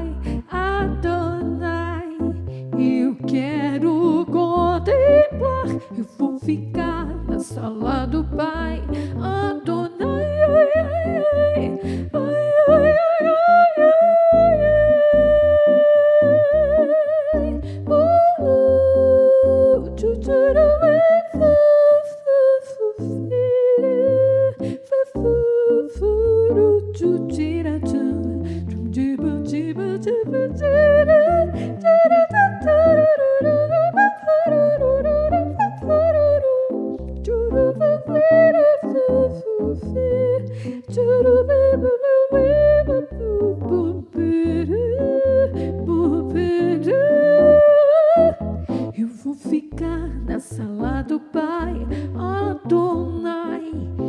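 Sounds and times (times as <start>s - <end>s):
piano accompaniment: 0.0s - 22.0s, 23.1s - 54.0s
woman singing wordless melody: 0.0s - 54.0s.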